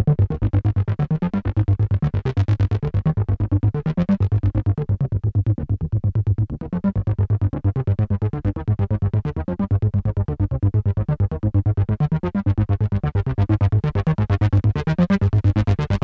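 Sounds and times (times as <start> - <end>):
distorted synthesizer bass sequence: 0.0 - 16.0.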